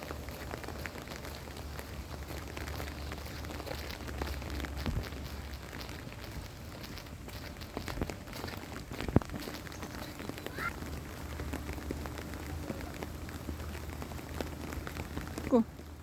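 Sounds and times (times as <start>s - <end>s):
low steady rumble: 0.0s - 16.0s
rain pattering: 0.0s - 16.0s.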